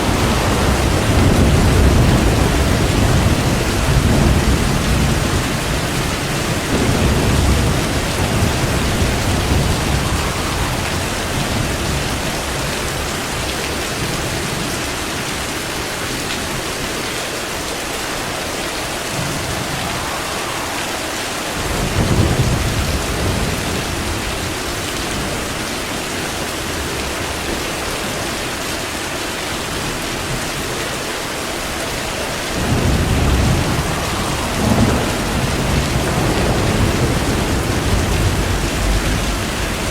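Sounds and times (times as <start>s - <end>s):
thunder rumbling: 0.0s - 15.1s, 15.7s - 27.6s, 31.6s - 39.9s
steady rain pouring: 0.0s - 39.9s.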